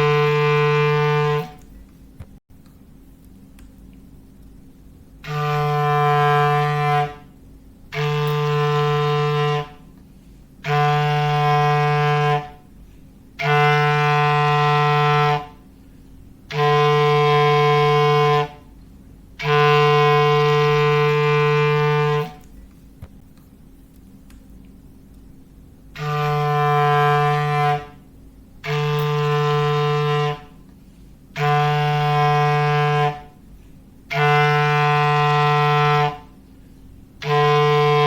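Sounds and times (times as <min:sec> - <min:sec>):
foghorn blasts: 0:00.0 - 0:01.7, 0:05.2 - 0:15.8, 0:16.4 - 0:22.5, 0:25.9 - 0:38.0.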